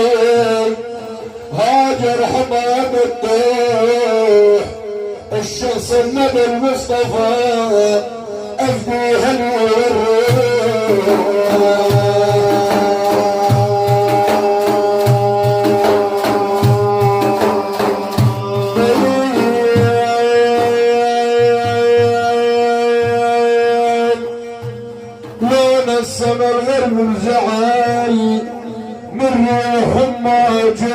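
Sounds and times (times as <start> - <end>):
drums beating steady rhythm: 0.0 - 30.9.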